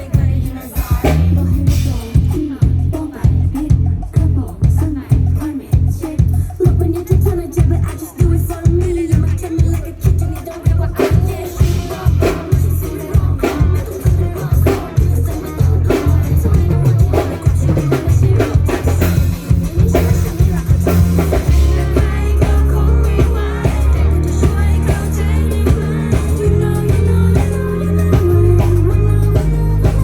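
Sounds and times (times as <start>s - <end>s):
pop music over pa system: 0.0s - 30.0s.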